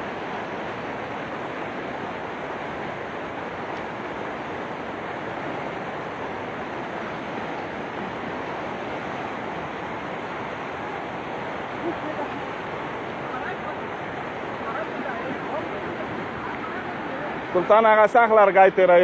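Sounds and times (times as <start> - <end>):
fast-flowing floodwater rushing: 0.0 - 19.0.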